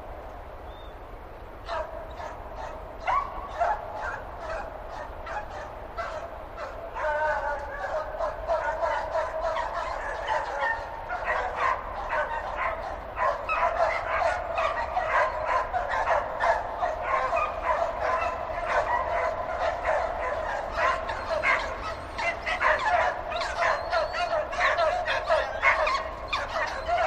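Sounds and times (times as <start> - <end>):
dogs barking and yapping: 1.6 - 27.0.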